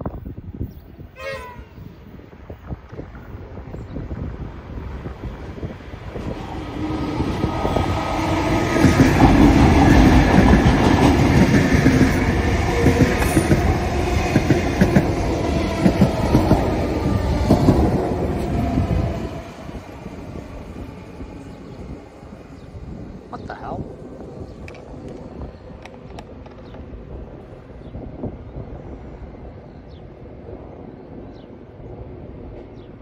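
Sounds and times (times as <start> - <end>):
electric train passing: 1.0 - 33.0.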